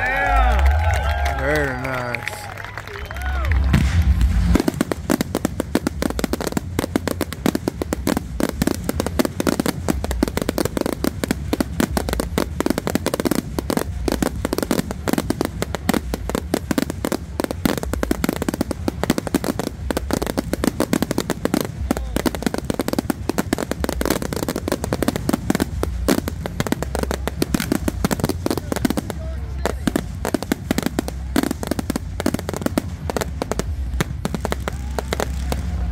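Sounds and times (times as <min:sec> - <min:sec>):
firework shell bursts and crackle: 0:01.4 - 0:35.9
low rumble of booms: 0:03.5 - 0:35.9.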